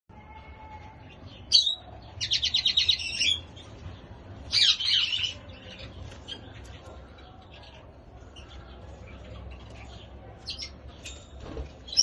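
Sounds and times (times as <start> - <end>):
small birds chirping and singing: 0.1 - 12.0.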